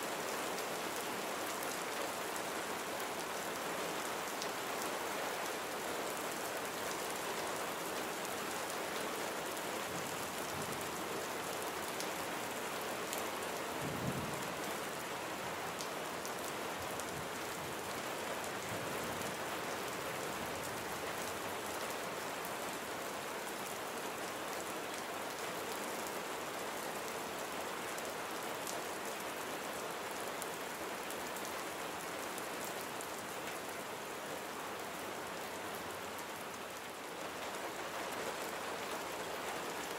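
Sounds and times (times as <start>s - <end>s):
rain pattering on surfaces: 0.1s - 39.9s.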